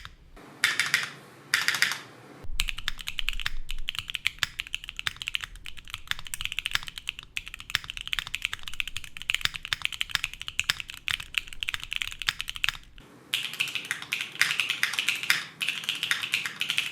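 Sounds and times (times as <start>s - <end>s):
fast mechanical keyboard typing: 0.0s - 16.9s.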